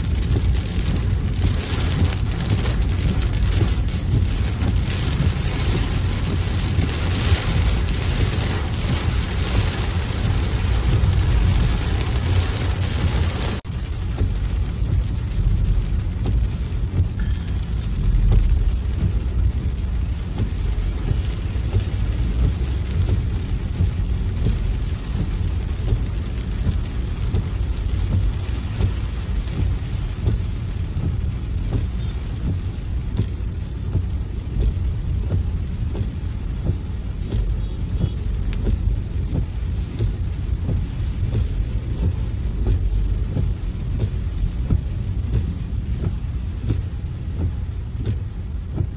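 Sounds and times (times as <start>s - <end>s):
car road rumble: 0.0s - 48.9s
heavy rain on car windshield: 0.0s - 48.9s.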